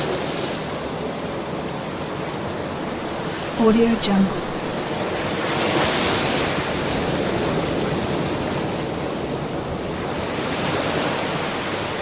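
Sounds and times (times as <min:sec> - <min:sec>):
ocean surf on shore: 0:00.0 - 0:12.0.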